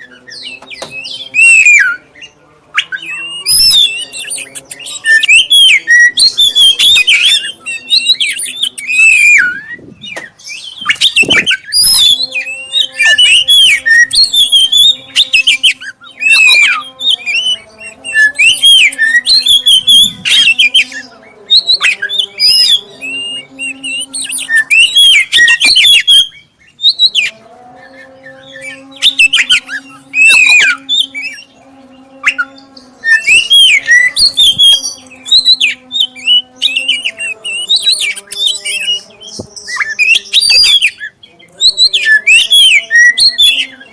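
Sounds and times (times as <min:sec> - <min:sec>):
bird singing whistles and chatter: 0:00.0 - 0:31.6, 0:32.2 - 0:43.9.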